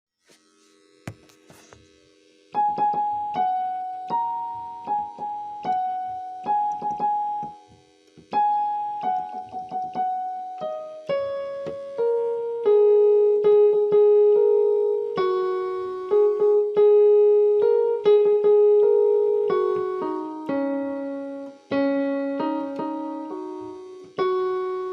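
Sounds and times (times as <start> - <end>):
gentle piano melody: 2.5 - 24.9.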